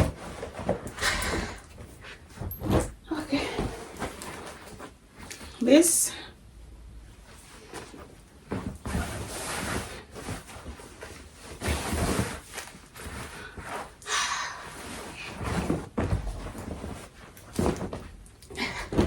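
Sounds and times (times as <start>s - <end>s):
clothing rustling: 0.0s - 6.1s, 6.8s - 19.0s.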